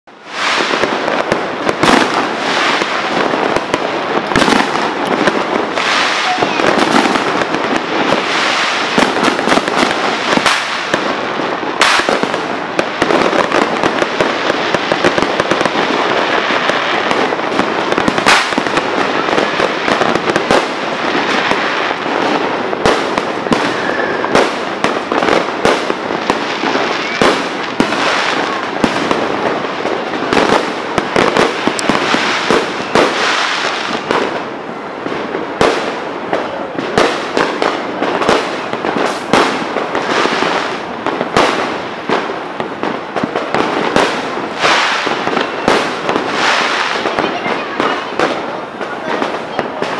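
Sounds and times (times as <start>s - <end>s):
firecrackers crackling: 0.0s - 49.9s
firework bangs: 0.1s - 49.9s.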